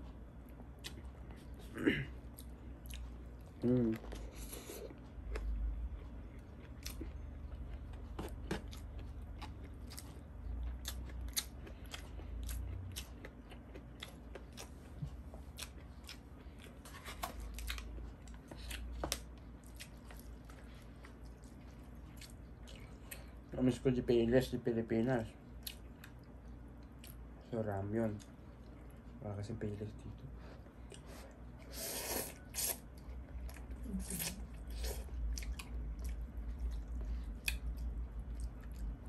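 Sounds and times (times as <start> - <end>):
person chewing food: 0.0 - 23.5, 25.4 - 27.4, 30.4 - 39.0.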